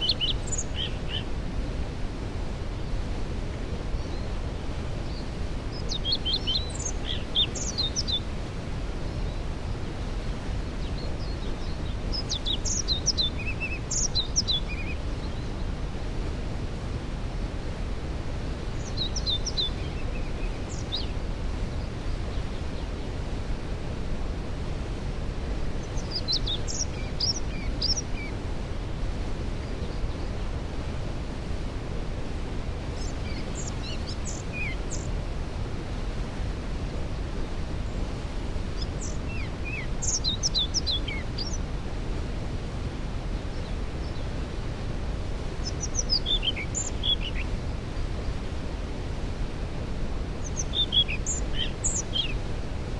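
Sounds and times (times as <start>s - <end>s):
songbird singing: 0.0s - 1.5s, 2.5s - 16.2s, 18.3s - 23.6s, 25.6s - 36.1s, 36.8s - 41.8s, 43.3s - 48.7s, 50.3s - 52.9s
waterfall rushing: 0.0s - 52.9s.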